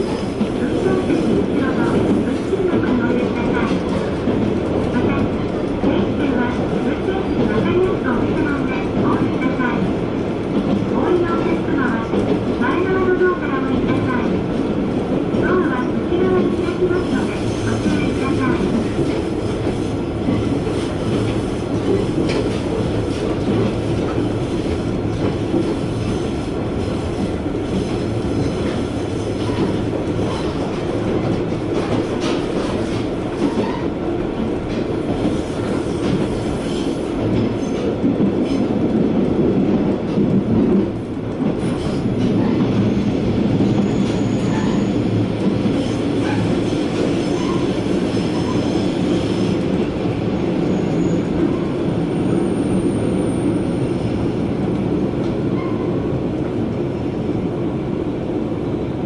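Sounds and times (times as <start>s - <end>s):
railcar engine and wheels rumbling: 0.0s - 59.0s.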